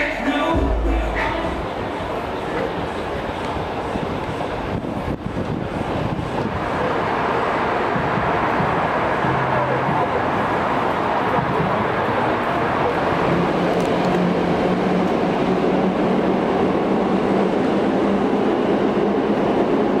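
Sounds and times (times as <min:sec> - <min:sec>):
outdoor city noise: 0:00.0 - 0:20.0.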